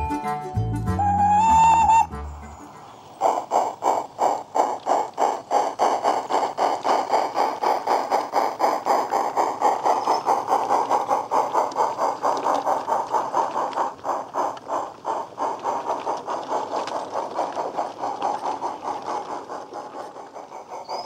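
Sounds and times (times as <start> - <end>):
simulated steam locomotive chuffs: 0.0 - 21.0.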